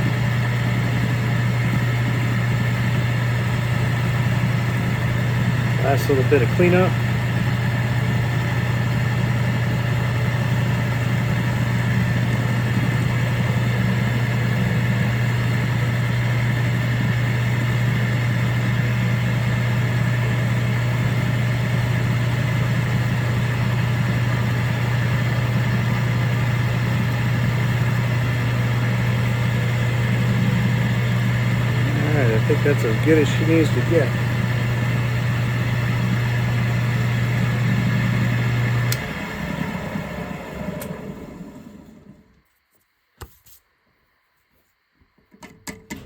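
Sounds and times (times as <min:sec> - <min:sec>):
drill press motor humming: 0:00.0 - 0:42.4.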